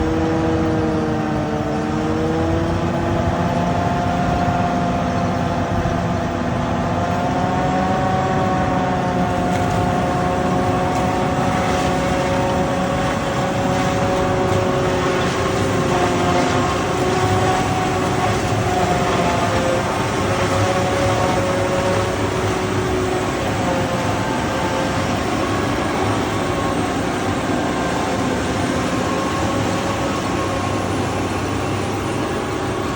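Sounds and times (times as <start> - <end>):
harvester machine drone: 0.0 - 32.9.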